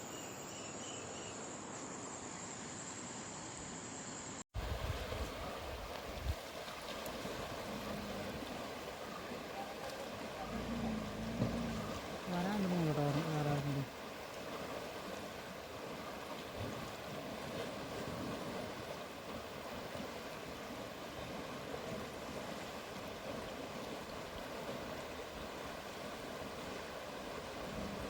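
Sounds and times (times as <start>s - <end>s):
river flowing: 4.6s - 28.0s.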